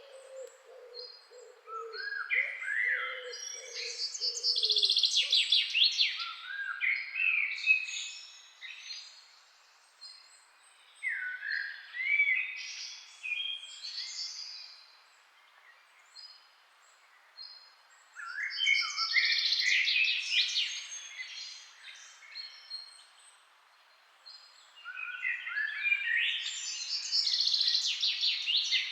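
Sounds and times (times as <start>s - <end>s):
songbirds trilling and chirping: 0.0s - 28.9s.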